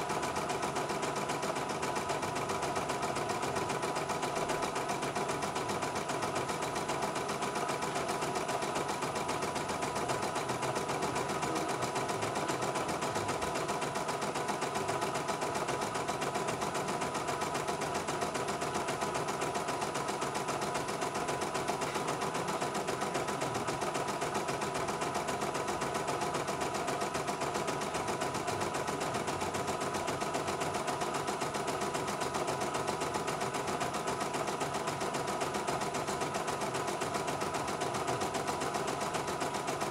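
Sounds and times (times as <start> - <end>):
embroidery machine needle rattle: 0.0 - 39.9.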